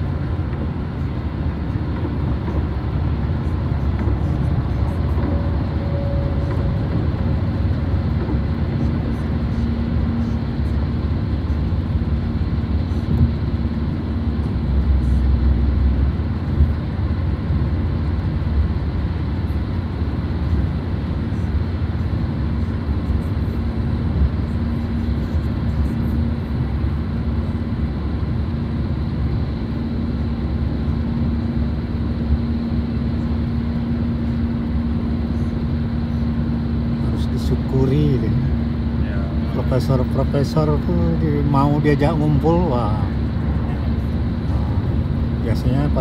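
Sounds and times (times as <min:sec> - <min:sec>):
road and engine rumble in car: 0:00.0 - 0:46.0.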